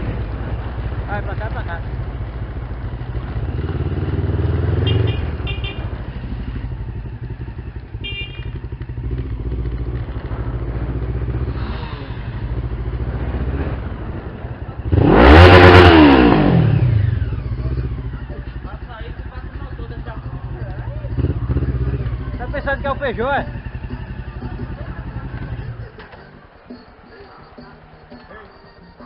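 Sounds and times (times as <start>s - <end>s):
motorcycle engine revving: 0.0s - 26.6s.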